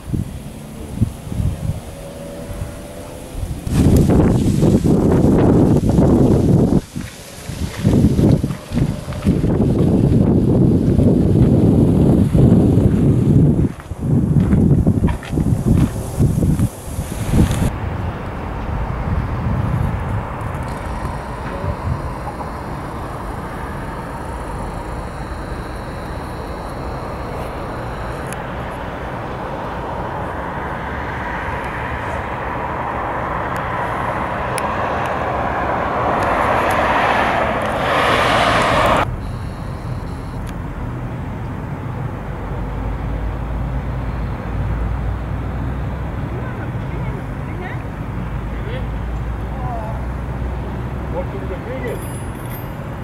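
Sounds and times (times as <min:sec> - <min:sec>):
vehicle rumble: 0:00.0 - 0:53.0.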